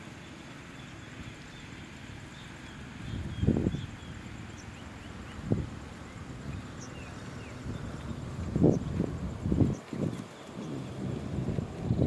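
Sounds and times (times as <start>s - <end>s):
wind rumble on microphone: 0.8s - 12.0s.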